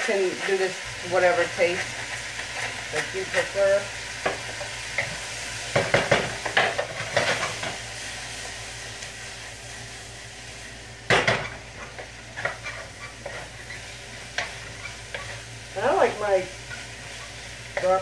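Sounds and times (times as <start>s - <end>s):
vegetables sizzling in a wok: 0.0s - 18.0s.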